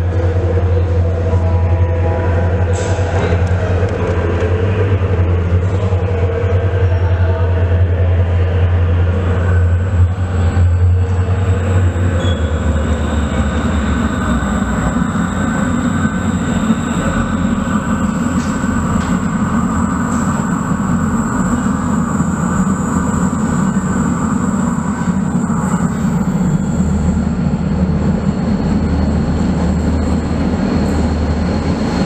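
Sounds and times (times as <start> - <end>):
train rumbling in tunnel: 0.0 - 32.0.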